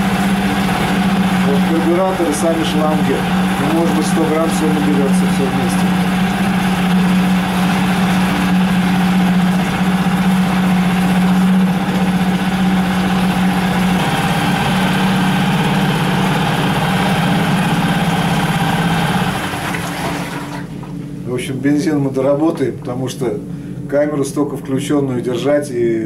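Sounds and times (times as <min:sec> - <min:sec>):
outboard motor idling: 0:00.0 - 0:25.6.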